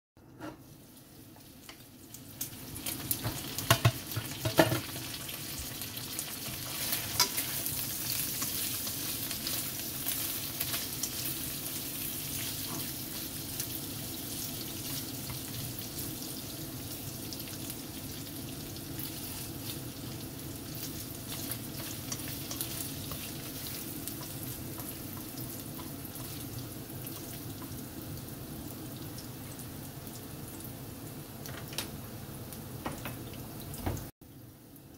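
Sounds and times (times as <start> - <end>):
pork sizzling in a wok: 0.3 - 34.9.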